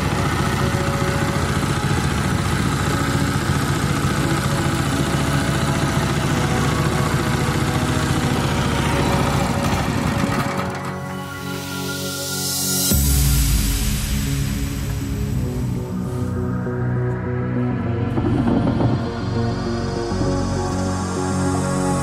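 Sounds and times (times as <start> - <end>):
small boat motor running: 0.0 - 13.0, 17.1 - 22.0.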